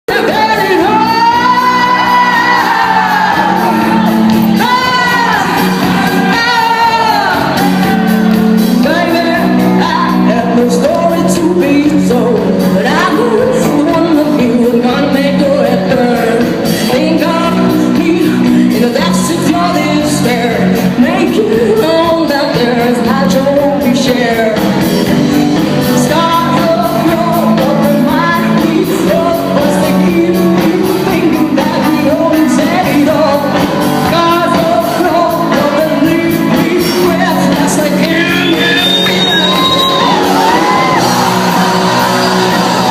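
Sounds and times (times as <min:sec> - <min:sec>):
person singing: 0:00.0 - 0:42.9
live rock band playing: 0:00.1 - 0:42.9.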